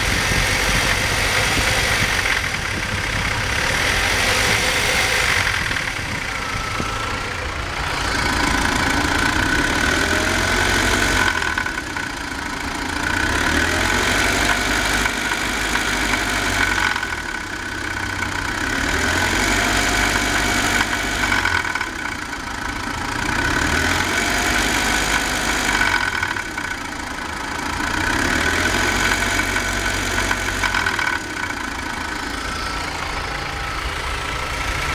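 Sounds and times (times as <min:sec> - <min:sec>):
car engine running unevenly: 0:00.0 - 0:34.9.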